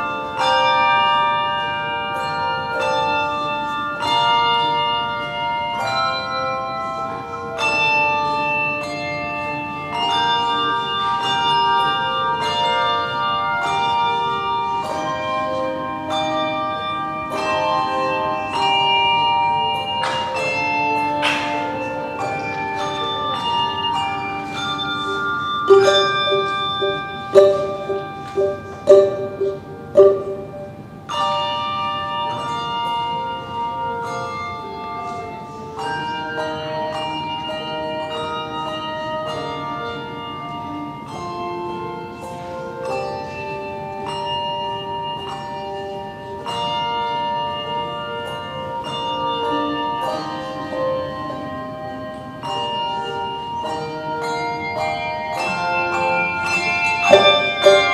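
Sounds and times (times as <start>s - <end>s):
handbell choir playing chords: 0.0s - 57.9s
loud strikes on lower bells: 0.0s - 57.9s.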